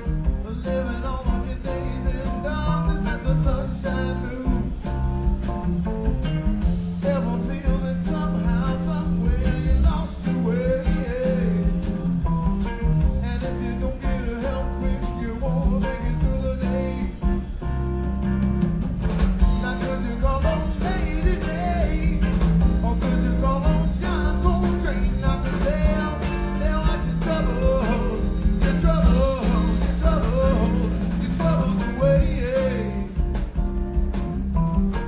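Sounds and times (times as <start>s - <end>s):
song with singing and guitar: 0.0s - 17.7s, 19.3s - 35.0s.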